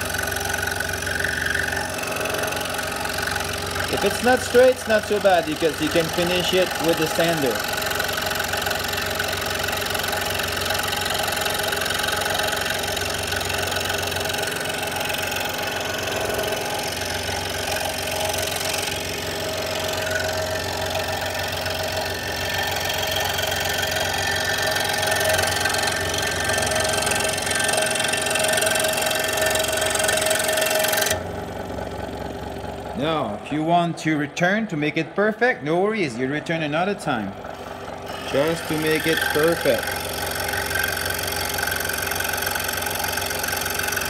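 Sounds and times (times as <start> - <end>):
scroll saw cutting wood: 0.0 - 32.4, 33.0 - 44.0.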